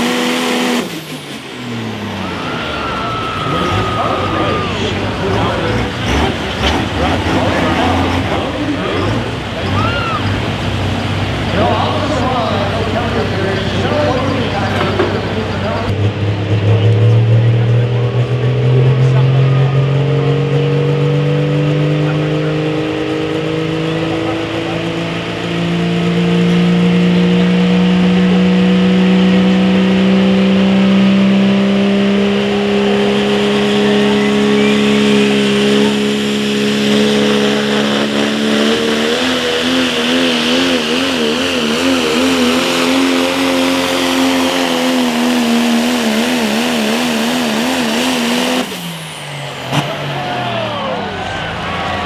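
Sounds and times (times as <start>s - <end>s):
diesel truck engine at full throttle: 0.0s - 52.0s.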